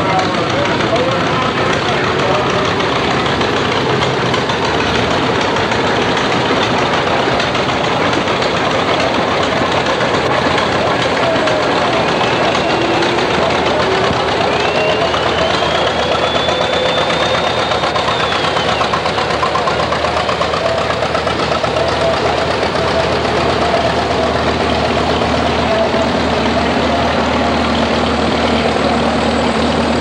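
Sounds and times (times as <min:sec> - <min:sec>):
tractor engines running: 0:00.0 - 0:30.0.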